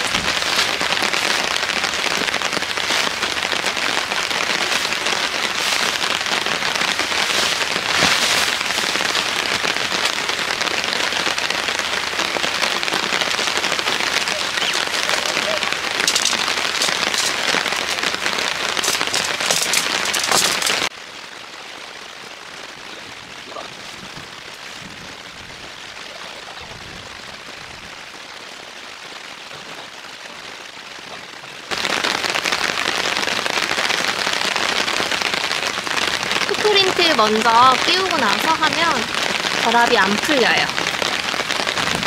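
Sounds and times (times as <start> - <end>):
heavy rain hissing: 0.0 - 42.0.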